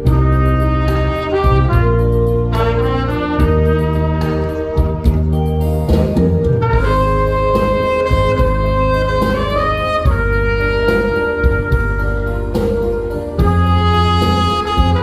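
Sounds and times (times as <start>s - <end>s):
low musical accompaniment: 0.0s - 15.0s
saxophone melody: 0.0s - 15.0s.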